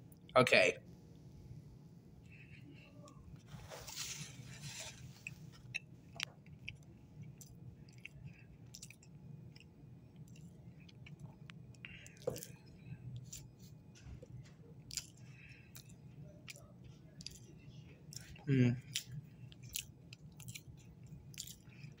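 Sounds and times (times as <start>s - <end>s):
person chewing cookie: 2.2s - 22.0s.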